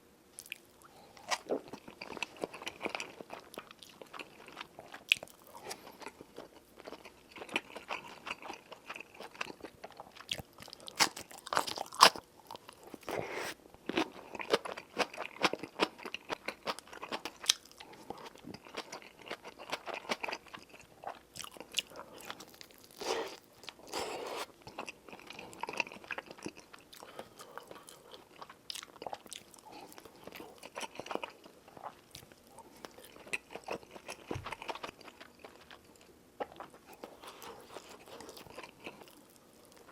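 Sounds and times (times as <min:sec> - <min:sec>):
chewing and biting food: 0:00.4 - 0:39.9.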